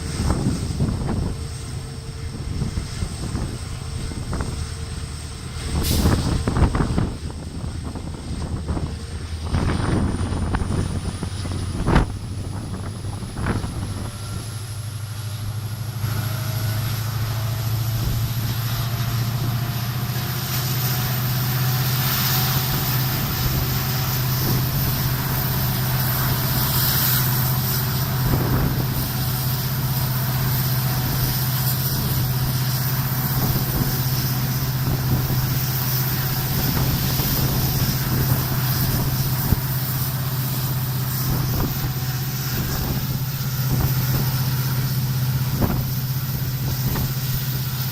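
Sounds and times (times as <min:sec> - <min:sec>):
bus engine drone: 0:00.0 - 0:47.9
rising engine whine: 0:00.0 - 0:47.9.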